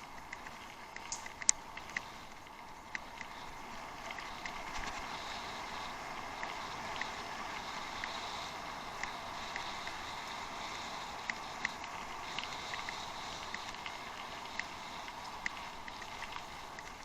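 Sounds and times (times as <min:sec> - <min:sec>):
bicycle tyres rolling on gravel: 0:00.0 - 0:17.0
small clicks from stones: 0:00.0 - 0:17.0.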